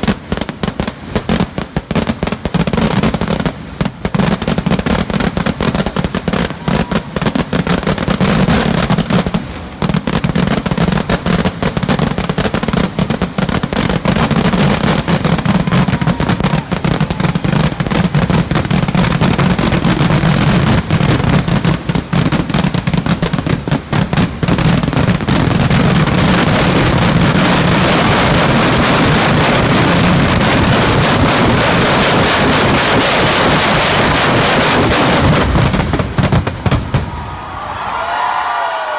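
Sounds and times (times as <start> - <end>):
rapid firecracker blasts: 0.0 - 37.9.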